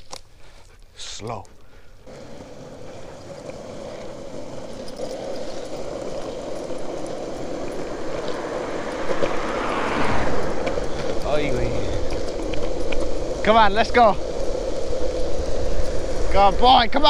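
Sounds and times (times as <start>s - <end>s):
longboard wheels rolling on asphalt: 0.0s - 17.0s
rushing wind: 1.8s - 17.0s.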